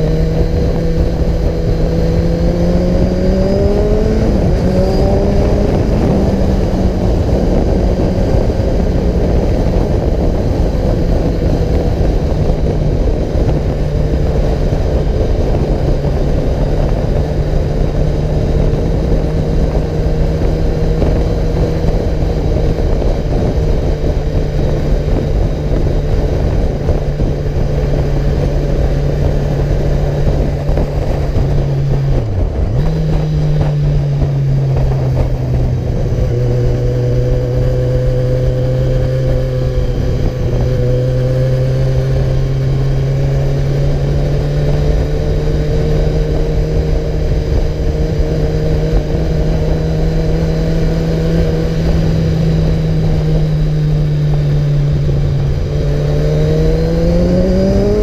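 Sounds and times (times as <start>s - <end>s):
road and wind rumble: 0.0s - 58.0s
vehicle engine running: 0.0s - 58.0s.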